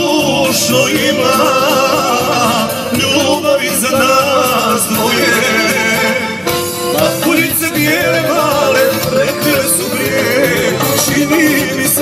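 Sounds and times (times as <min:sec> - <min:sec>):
folk-pop instrumental music: 0:00.0 - 0:12.0.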